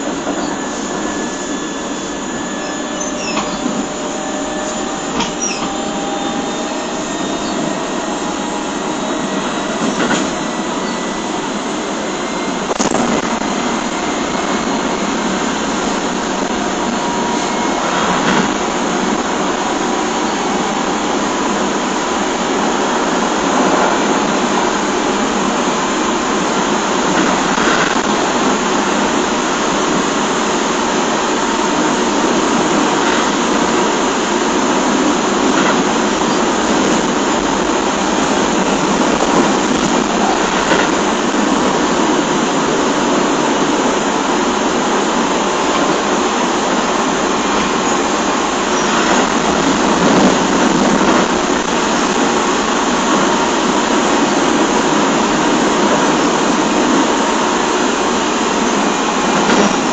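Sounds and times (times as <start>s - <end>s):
electric train motor hum: 0.0s - 59.9s
wheel and rail noise: 0.0s - 59.9s.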